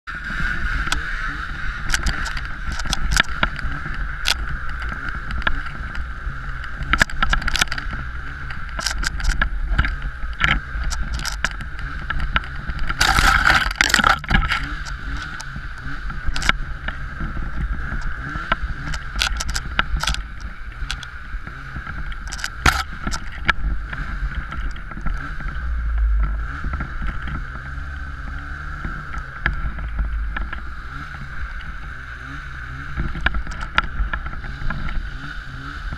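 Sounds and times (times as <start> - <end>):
snowmobile engine running: 0.1 - 35.9
sharp clicks and knocks: 1.8 - 15.6, 16.2 - 17.0, 17.6 - 21.1, 21.8 - 27.6, 28.3 - 31.9, 33.0 - 35.0.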